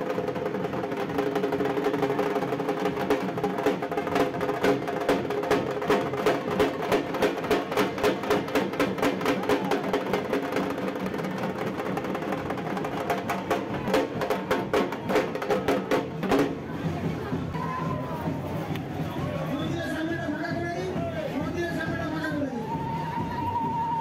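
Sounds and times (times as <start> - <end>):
barrel drums beating: 0.0 - 24.0.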